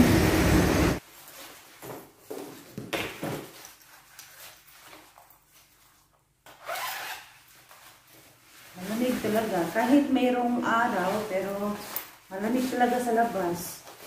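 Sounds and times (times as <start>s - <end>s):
rubbing and rustling: 1.0s - 14.0s.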